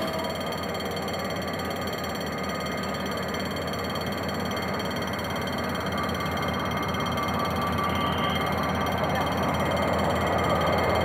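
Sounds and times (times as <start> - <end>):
diesel locomotive engine rumbling: 0.0 - 11.0.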